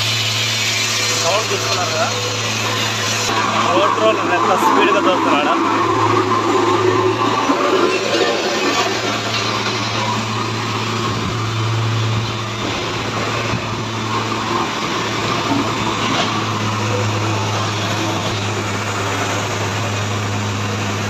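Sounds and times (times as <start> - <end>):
engine humming: 0.0 - 21.0
traffic and street noise: 0.0 - 21.0.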